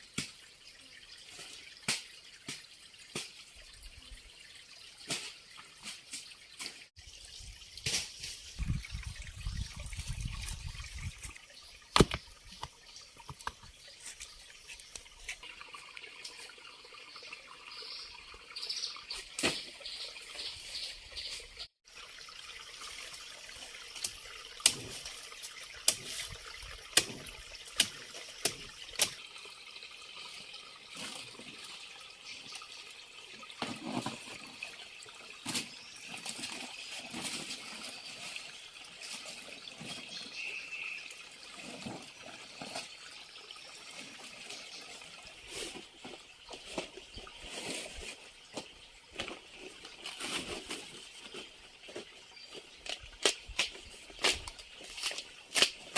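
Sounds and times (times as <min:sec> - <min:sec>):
water trickling: 0:00.0 - 0:55.9.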